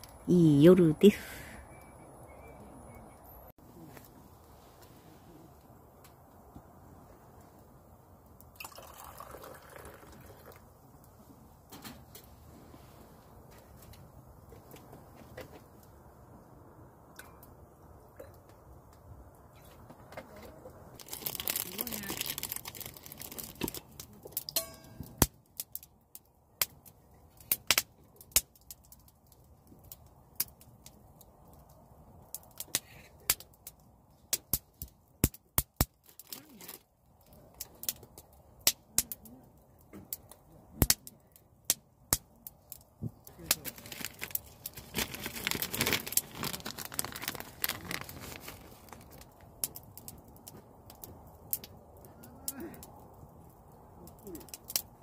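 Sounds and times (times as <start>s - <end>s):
wood fire crackling and popping: 5.6s - 55.0s.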